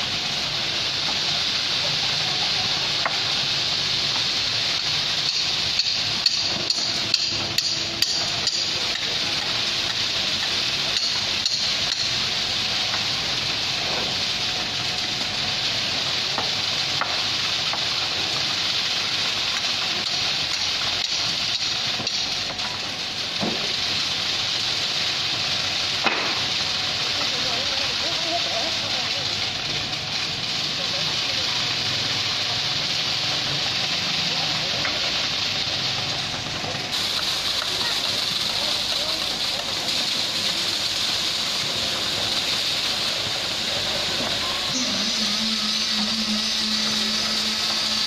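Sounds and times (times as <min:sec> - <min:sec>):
steady hiss-like noise: 0:00.0 - 0:48.0.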